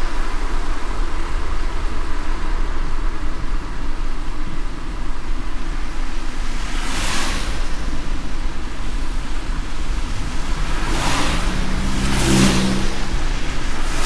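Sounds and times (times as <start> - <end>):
car driving on wet road: 0.0 - 14.0.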